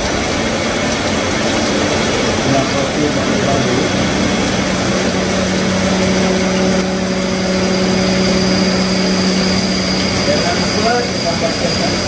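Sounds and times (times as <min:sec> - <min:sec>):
milling machine cutting metal: 0:02.1 - 0:12.0.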